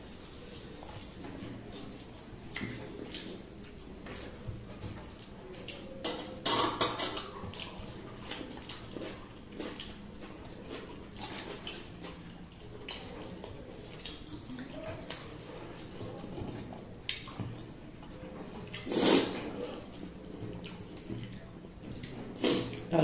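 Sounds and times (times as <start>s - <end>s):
wet squishing of rice: 0.0s - 23.0s
chewing and mouth sounds: 0.1s - 22.9s.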